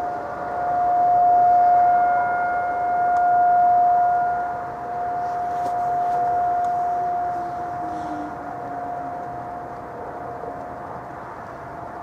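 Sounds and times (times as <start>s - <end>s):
distant warning siren: 0.0s - 12.0s.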